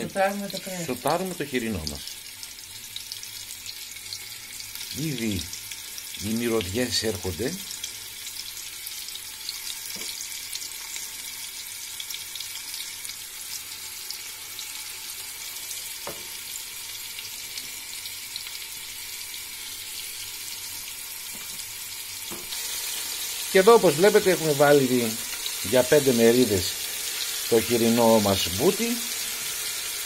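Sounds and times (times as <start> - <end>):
meat sizzling in hot oil: 0.0 - 30.0.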